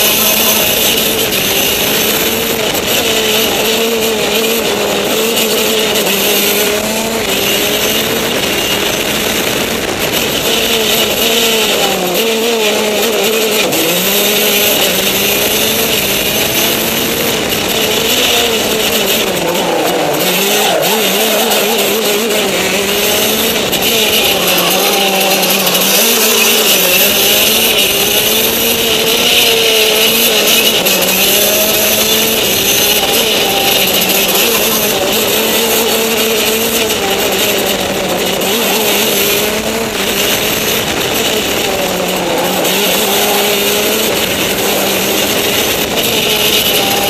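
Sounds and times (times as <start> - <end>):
go-kart engine: 0.0 - 47.0.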